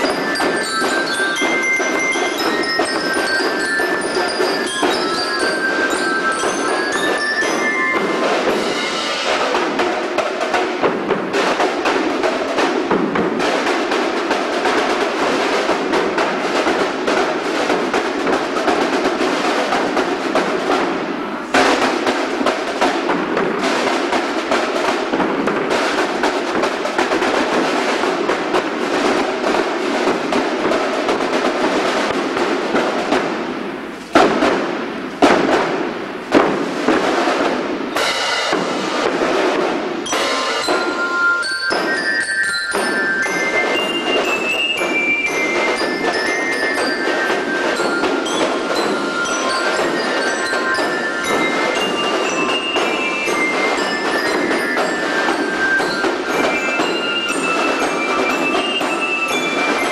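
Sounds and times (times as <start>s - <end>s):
loud drum hits: 0.0s - 59.9s
marching band playing: 0.0s - 59.9s.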